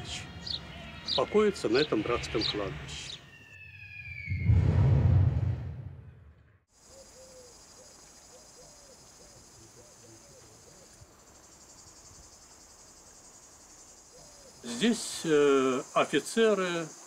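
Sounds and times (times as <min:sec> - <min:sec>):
insects chirping: 0:00.0 - 0:04.4, 0:06.7 - 0:17.0.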